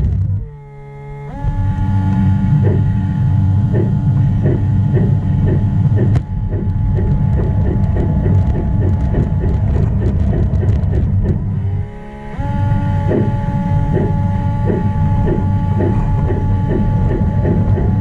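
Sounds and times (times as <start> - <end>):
motor and gearing rumble: 0.0 - 18.0.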